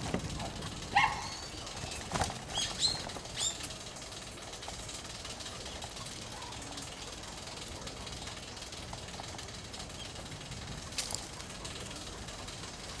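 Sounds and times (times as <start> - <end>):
bicycle rolling on pavement: 0.0 - 13.0.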